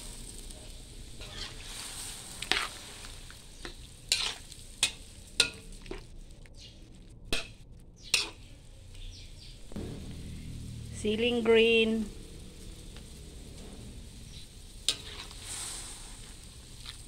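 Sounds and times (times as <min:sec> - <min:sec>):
metal spatula scraping wok: 0:00.0 - 0:06.0, 0:07.3 - 0:08.5, 0:09.7 - 0:17.0
food sizzling: 0:00.0 - 0:17.0.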